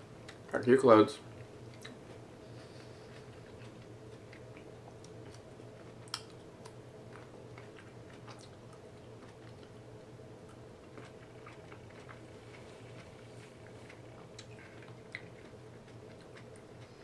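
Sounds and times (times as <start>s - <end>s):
low hum: 0.0s - 17.0s
person chewing food: 1.4s - 17.0s.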